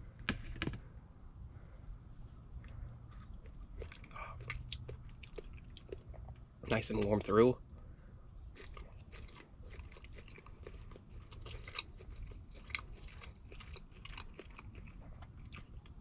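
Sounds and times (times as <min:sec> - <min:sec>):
person chewing food: 0:02.6 - 0:16.0.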